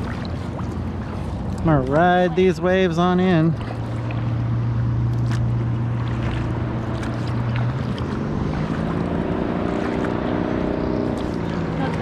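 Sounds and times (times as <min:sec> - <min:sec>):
motorboat engine droning: 0:00.0 - 0:12.0
water lapping with splashes: 0:00.0 - 0:12.0.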